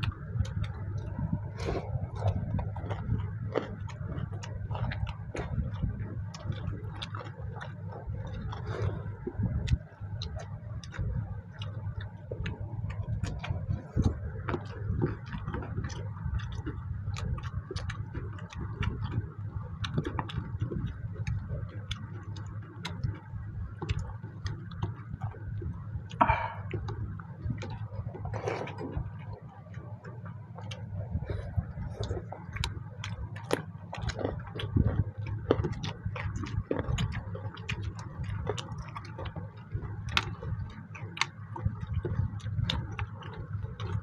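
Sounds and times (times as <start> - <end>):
chewing and lip smacking: 0.0 - 44.0
steady low hum: 0.0 - 44.0.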